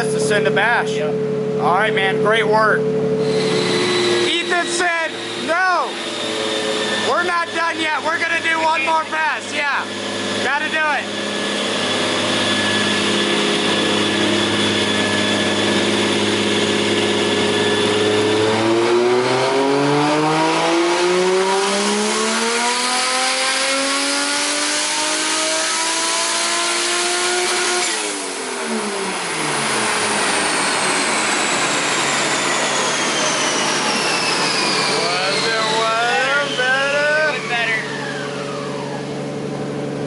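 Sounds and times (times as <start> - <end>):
car engine revving on dyno: 0.0 - 40.0
high whine winding down: 0.0 - 40.0.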